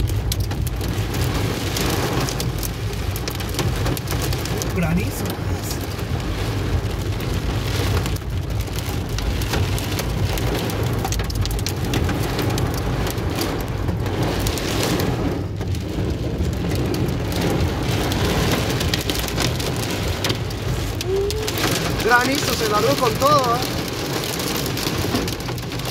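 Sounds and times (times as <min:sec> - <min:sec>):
car rumbling on road: 0:00.0 - 0:25.9
rain and hail on car roof: 0:00.0 - 0:25.9.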